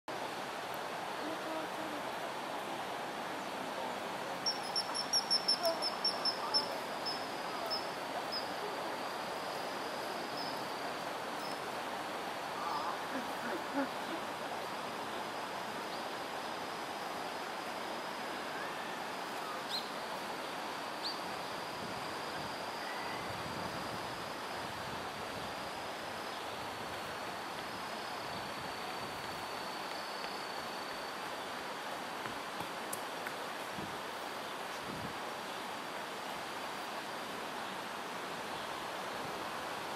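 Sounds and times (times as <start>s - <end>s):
outdoor background hiss: 0.1s - 39.9s.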